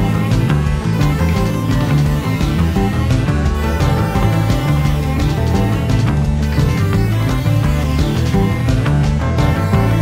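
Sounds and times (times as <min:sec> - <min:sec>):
music with beat and bass line: 0:00.0 - 0:10.0
plucked guitar-like notes: 0:00.0 - 0:10.0.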